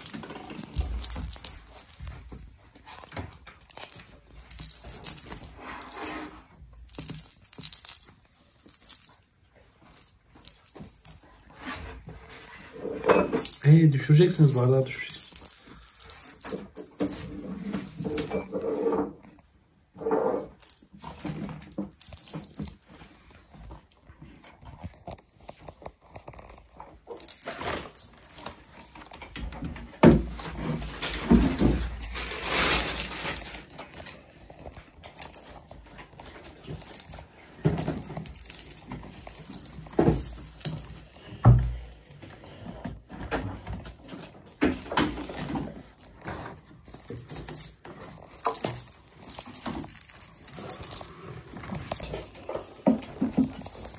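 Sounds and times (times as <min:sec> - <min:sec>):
rattle ball jingling: 0:00.0 - 0:19.4, 0:20.4 - 0:42.8, 0:45.1 - 0:53.9.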